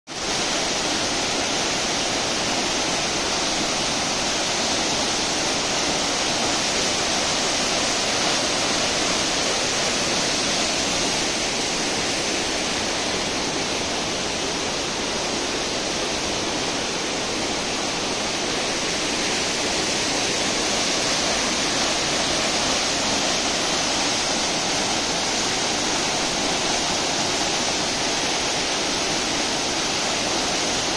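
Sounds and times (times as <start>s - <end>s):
water rushing over falls: 0.1s - 30.9s.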